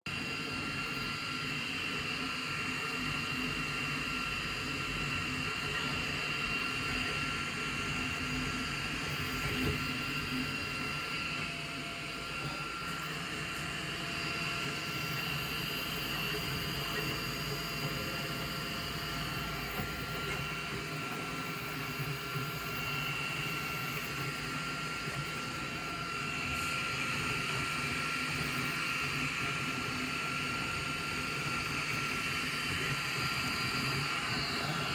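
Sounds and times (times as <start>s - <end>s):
high-pitched whine: 0.1s - 34.9s
three-d printer whirring: 0.1s - 34.9s.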